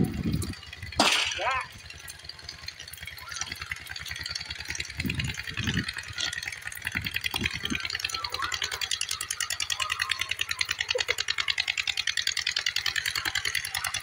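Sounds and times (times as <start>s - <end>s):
mechanical rattling: 0.0s - 14.0s.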